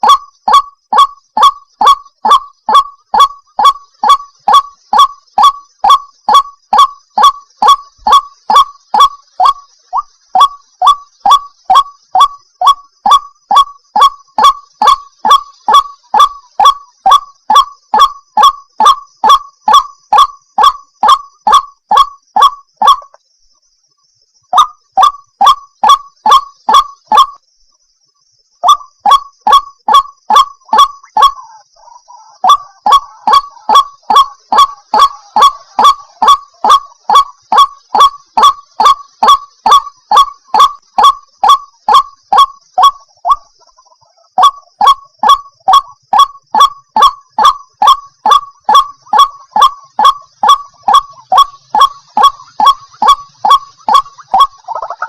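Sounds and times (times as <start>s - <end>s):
waterhen harsh repeated calls: 0.0s - 23.2s, 24.5s - 27.4s, 28.6s - 55.0s.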